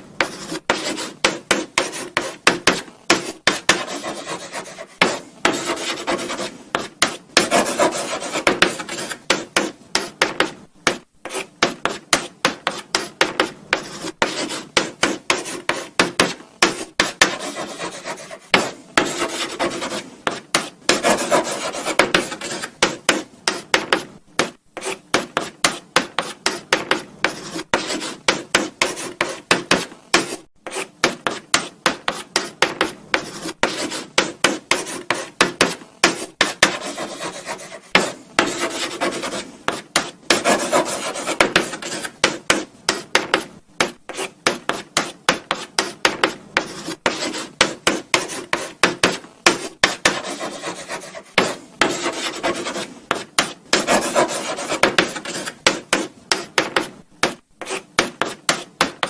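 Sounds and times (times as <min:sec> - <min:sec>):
chalk writing on a blackboard: 0:00.2 - 0:59.0.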